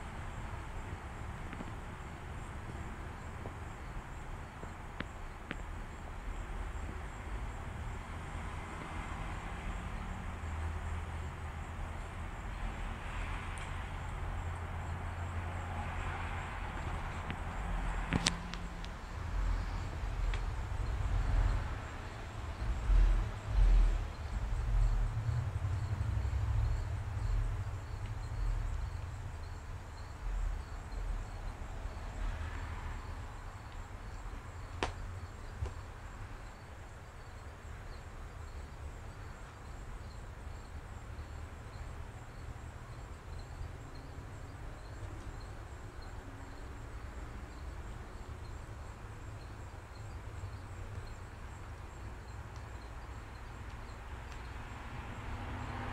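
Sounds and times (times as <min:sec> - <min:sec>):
insect chirping: 0:00.0 - 0:55.9.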